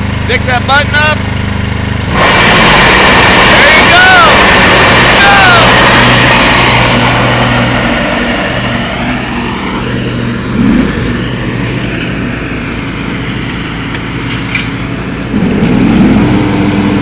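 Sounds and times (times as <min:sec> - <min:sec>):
riding lawn mower engines: 0:00.0 - 0:17.0.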